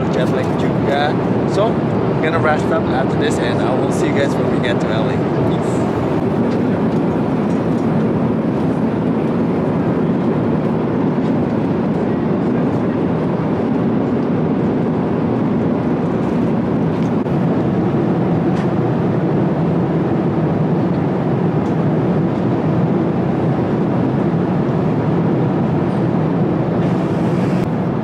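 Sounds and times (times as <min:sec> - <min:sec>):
jet engine cabin roar: 0:00.0 - 0:28.0.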